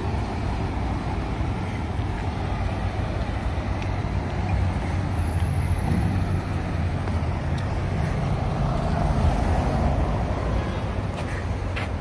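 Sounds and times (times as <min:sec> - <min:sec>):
traffic on cobblestones: 0:00.0 - 0:12.0.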